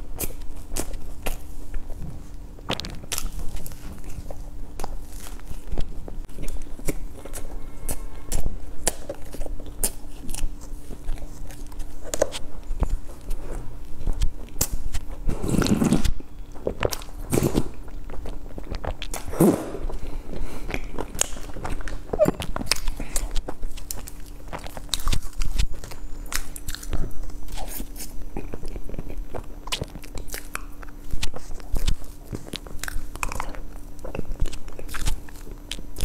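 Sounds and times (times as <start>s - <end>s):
wet chewing with mouth clicks: 0.0s - 36.0s.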